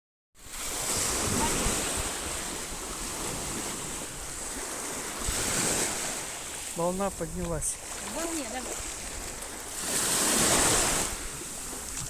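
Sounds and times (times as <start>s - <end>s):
sea waves washing onto shore: 0.4s - 12.0s.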